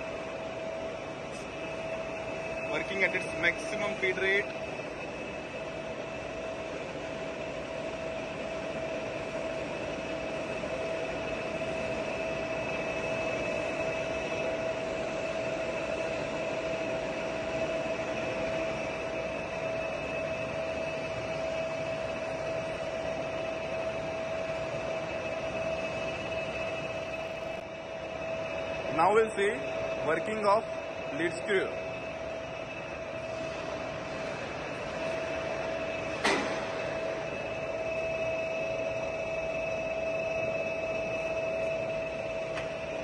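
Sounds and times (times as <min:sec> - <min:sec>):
lathe mechanical hum: 0:00.0 - 0:43.0
lathe whine: 0:00.0 - 0:43.0.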